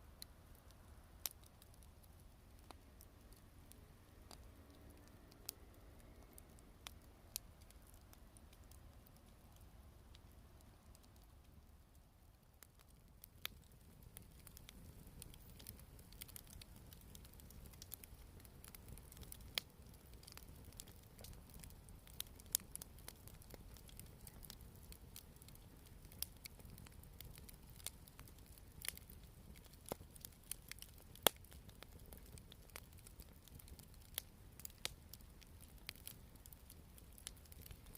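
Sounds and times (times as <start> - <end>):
campfire crackling: 0.0 - 37.9.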